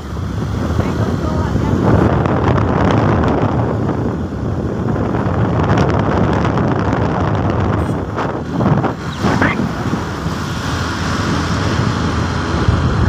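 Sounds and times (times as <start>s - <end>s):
road noise: 0.0s - 13.0s
scooter engine: 0.0s - 13.0s
wind buffeting microphone: 0.0s - 13.0s.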